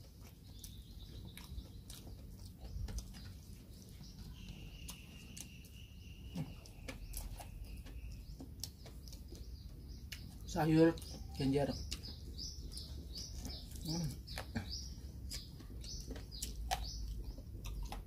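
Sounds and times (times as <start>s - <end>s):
people chewing and lip smacking: 0.0s - 18.0s.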